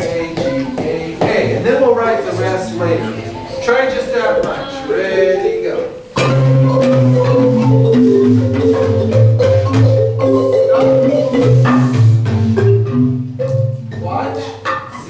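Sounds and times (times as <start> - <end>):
deep low marimba notes: 0.0 - 15.0
marimbas playing: 0.0 - 15.0.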